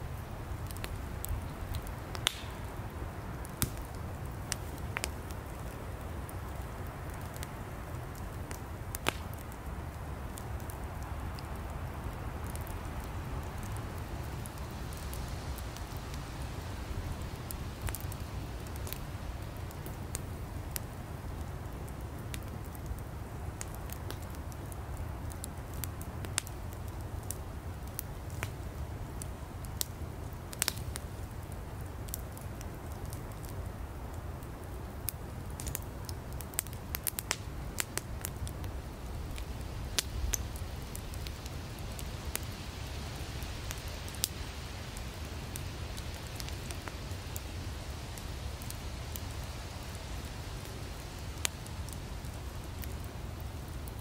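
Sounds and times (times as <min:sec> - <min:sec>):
low rumble of fire: 0:00.0 - 0:54.0
wood crackling and popping: 0:00.0 - 0:54.0.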